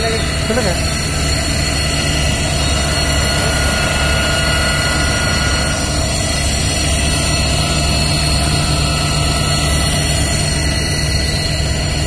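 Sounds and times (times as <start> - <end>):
fire engine engine running: 0.0 - 12.0.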